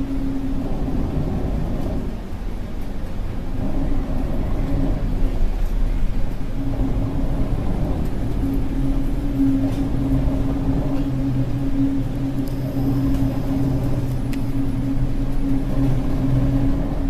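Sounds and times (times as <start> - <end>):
low rumble with droning hum: 0.0 - 17.0.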